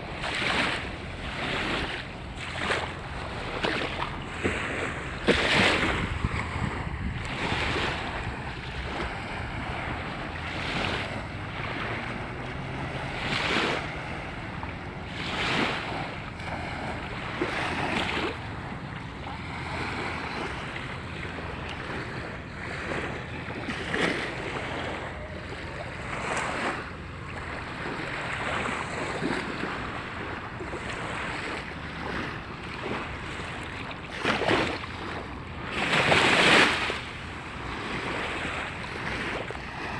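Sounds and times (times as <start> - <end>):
waves washing onto beach: 0.0 - 39.9
wind buffeting microphone: 0.0 - 39.9.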